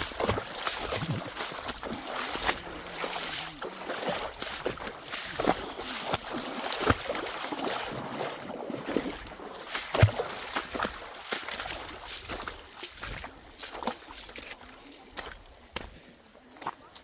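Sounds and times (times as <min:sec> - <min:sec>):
footsteps squelching in mud: 0:00.0 - 0:17.0.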